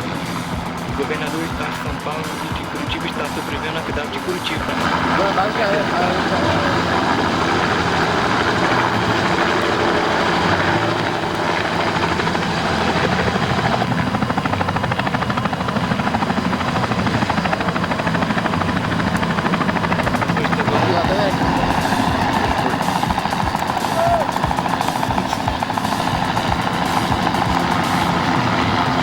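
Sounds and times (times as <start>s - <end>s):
helicopter engine drone: 0.0s - 29.0s
helicopter rotor chop: 0.0s - 29.0s.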